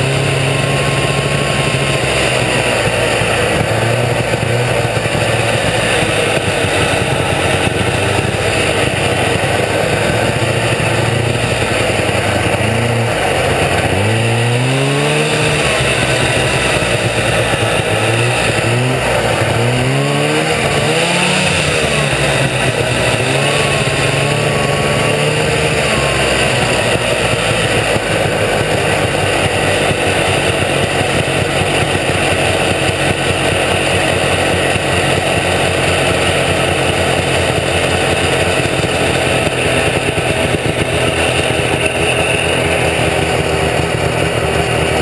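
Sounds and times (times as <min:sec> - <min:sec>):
snowmobile engine running: 0:00.0 - 0:45.0.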